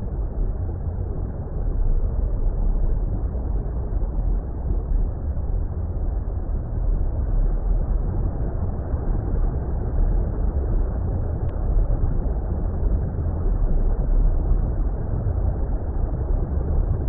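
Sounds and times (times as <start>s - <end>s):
muffled underwater water rumble: 0.0s - 17.0s.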